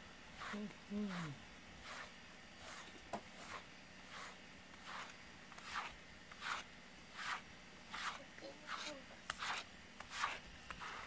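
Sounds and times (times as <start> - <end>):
brush swishing through fur: 0.0 - 11.0.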